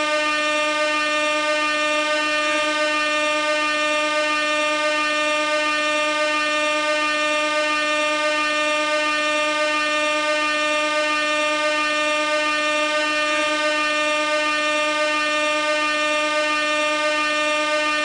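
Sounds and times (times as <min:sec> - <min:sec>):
air horn blast: 0:00.0 - 0:18.0.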